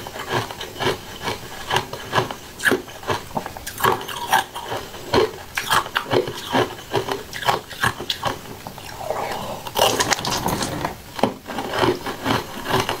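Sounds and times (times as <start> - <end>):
crunchy food being chewed: 0.0 - 13.0.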